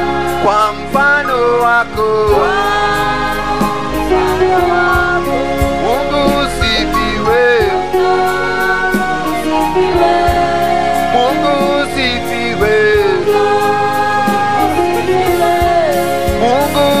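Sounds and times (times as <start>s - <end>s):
choir singing gospel: 0.0s - 17.0s
keyboard backing with beat: 0.0s - 17.0s.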